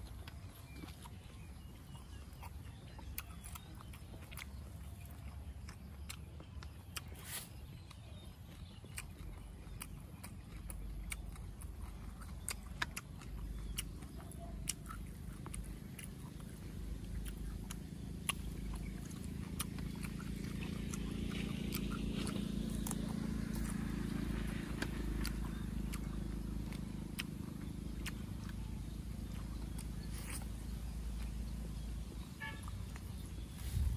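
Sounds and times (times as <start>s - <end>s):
low steady hum: 0.0s - 33.9s
wet chewing mouth sounds: 0.0s - 33.9s.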